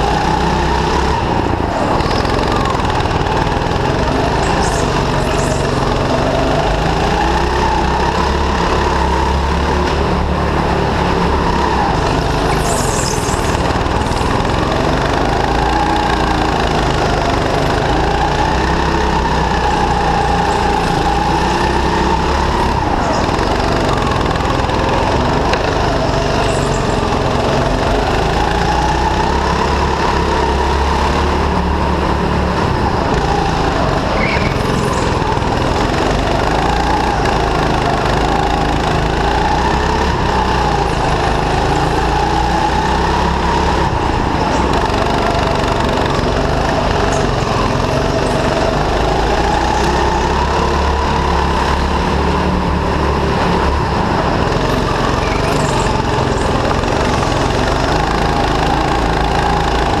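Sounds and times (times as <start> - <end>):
go-kart engine revving: 0.0 - 60.0.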